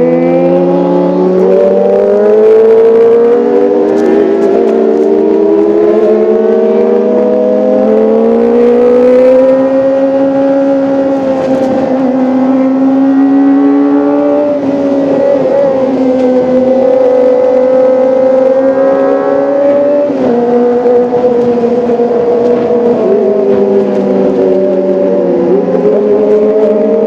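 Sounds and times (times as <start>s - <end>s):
motorcycle engine revving high: 0.0s - 27.0s.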